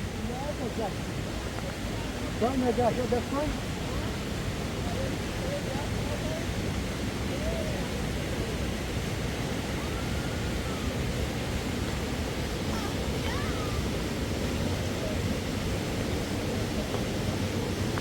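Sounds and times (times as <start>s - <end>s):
faint distant voices: 0.0s - 18.0s.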